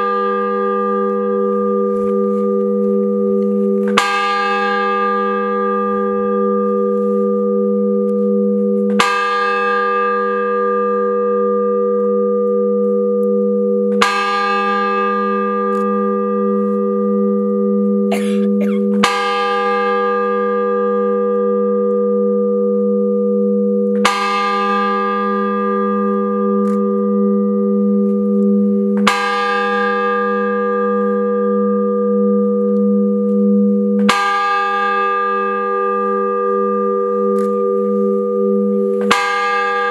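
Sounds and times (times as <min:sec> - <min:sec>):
large bell tolling: 0:00.0 - 0:39.9.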